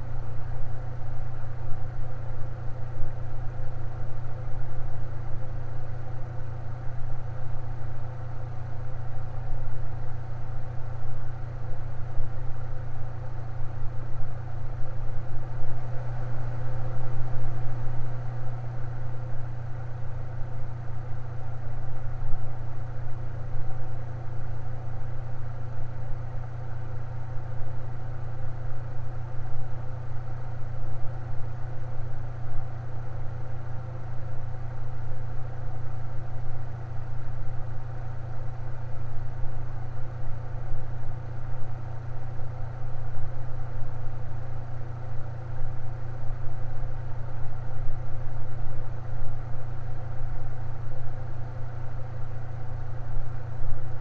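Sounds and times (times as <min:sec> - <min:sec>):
electric fan humming: 0:00.0 - 0:54.0.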